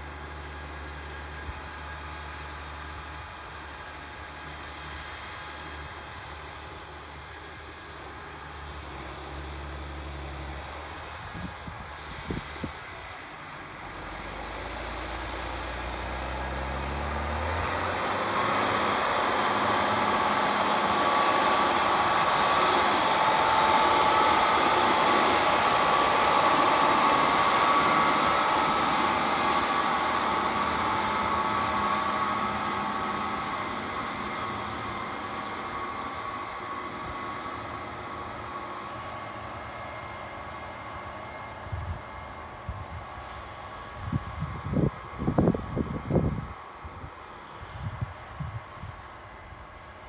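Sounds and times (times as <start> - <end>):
high engine whine: 0.0 - 50.0
tractor diesel engine under load: 0.0 - 50.0.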